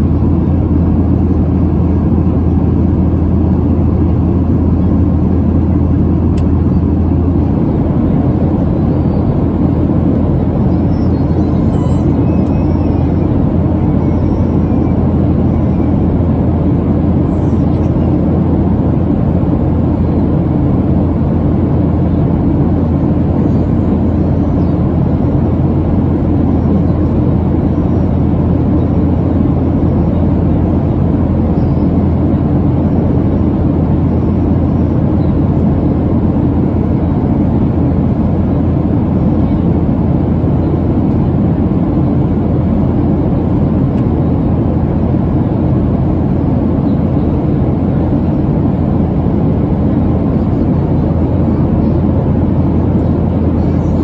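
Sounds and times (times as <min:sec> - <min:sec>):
airplane cabin noise: 0:00.0 - 0:54.0.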